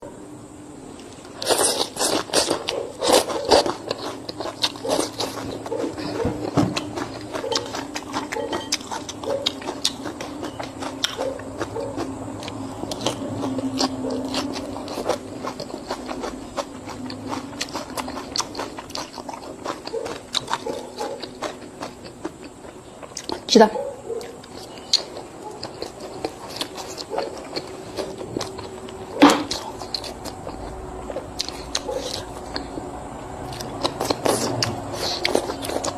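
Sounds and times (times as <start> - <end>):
person chewing crunchy food: 1.0 - 35.9.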